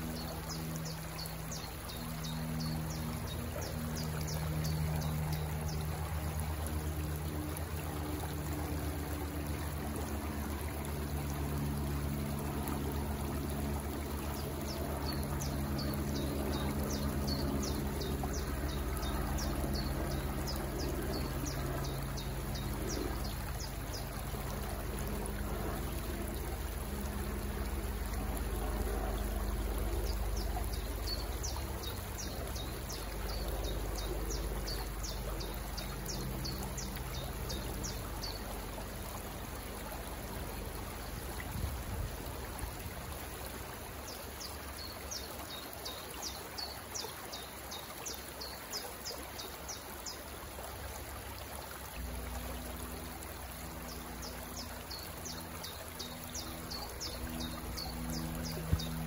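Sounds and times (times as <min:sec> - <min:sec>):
water trickling: 0:00.0 - 0:59.0.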